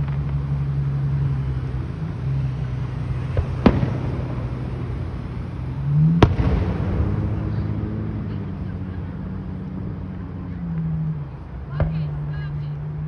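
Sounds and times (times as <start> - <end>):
fireworks bangs: 0.0 - 12.3.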